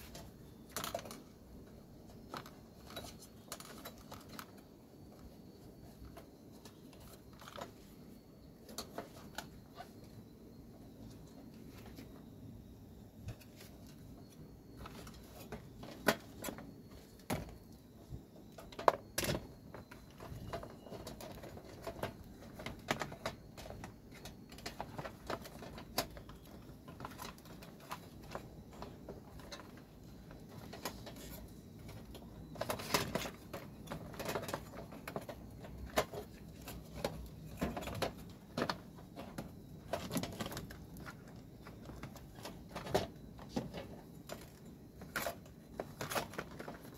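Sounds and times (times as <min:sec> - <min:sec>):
plastic parts clicking and rattling: 0:00.0 - 0:07.9, 0:13.3 - 0:46.9.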